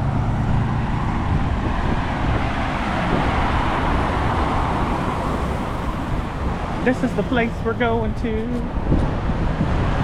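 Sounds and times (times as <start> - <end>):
road traffic: 0.0 - 10.0
vehicle passing: 0.0 - 10.0.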